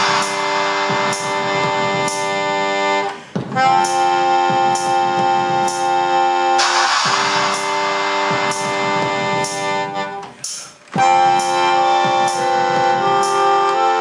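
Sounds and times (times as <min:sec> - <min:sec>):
drum machine beat: 0:00.0 - 0:14.0
melodica chords and melody: 0:00.0 - 0:14.0.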